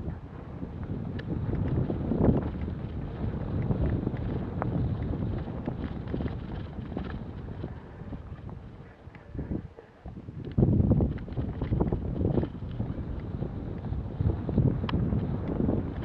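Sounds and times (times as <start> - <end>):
bike rattles and clicks: 0.0 - 16.0
wind buffeting microphone: 0.0 - 16.0.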